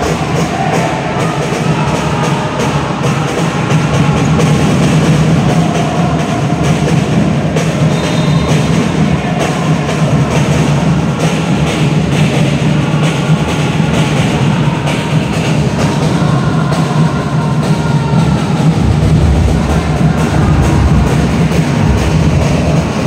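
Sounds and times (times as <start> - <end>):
crowd chanting: 0.0 - 23.0
drums beating steady rhythm: 0.0 - 23.0.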